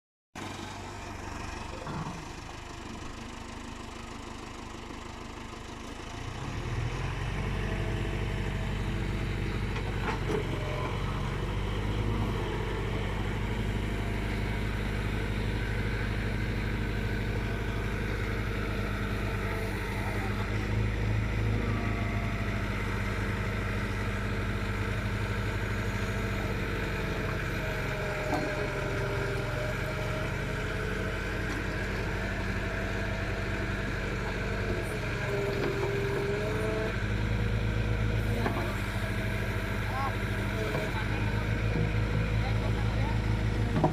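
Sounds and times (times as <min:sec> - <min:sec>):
heavy diesel engine running: 0:00.4 - 0:43.9.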